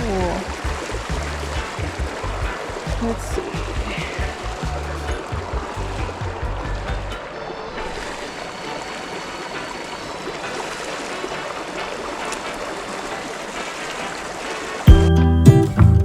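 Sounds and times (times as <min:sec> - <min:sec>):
stream water rushing: 0:00.0 - 0:14.9.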